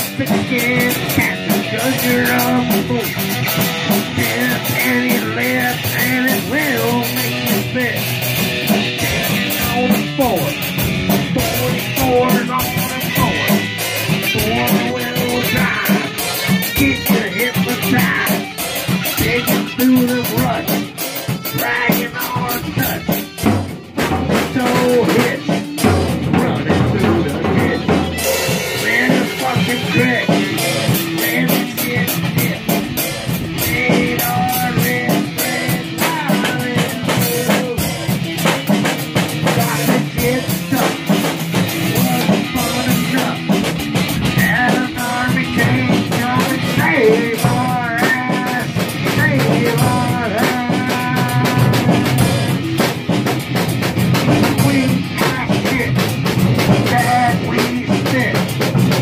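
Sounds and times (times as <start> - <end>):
drum kit beat: 0.0 - 59.0
electric guitar through amplifier: 0.0 - 59.0.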